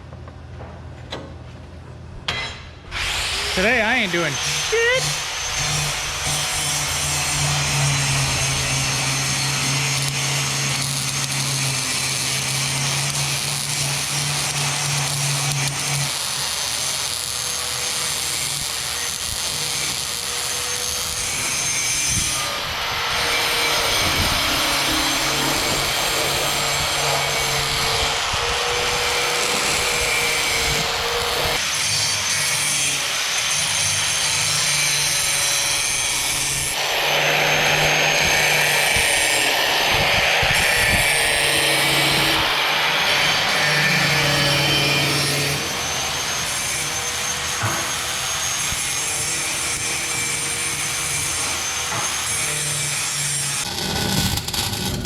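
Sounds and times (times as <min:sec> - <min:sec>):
power tool grinding metal: 0:02.9 - 0:55.0.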